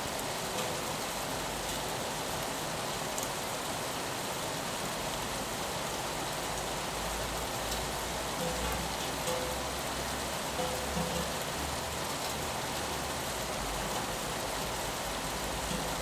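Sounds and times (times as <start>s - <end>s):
rain on window pane: 0.0s - 3.5s, 4.8s - 16.0s.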